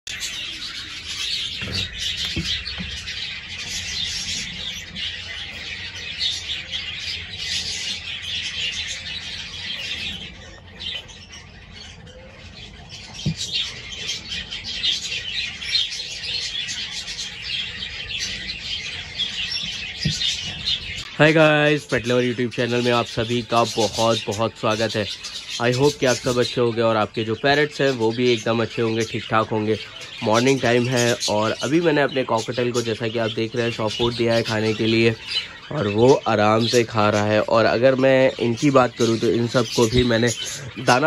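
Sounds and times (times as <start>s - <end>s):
birds chirping and calling: 0.0s - 41.0s.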